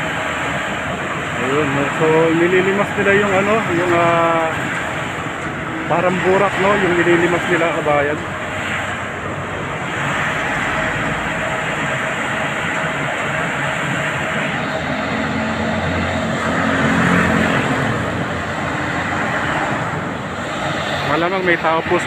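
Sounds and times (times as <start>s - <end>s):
excavator engine: 0.0s - 22.0s
road traffic passing: 0.0s - 22.0s.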